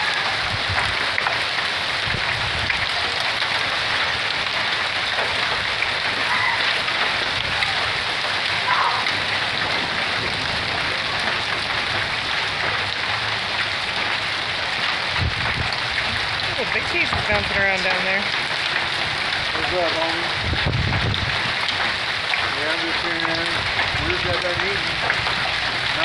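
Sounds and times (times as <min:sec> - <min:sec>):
hail and rain on roof: 0:00.0 - 0:26.0.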